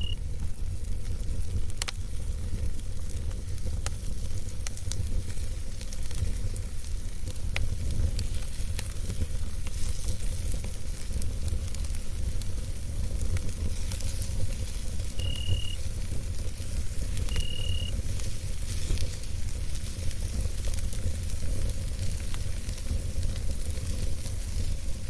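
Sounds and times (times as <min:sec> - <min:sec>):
flames rumbling and hissing: 0:00.0 - 0:25.0
wood crackling and popping: 0:00.0 - 0:25.0.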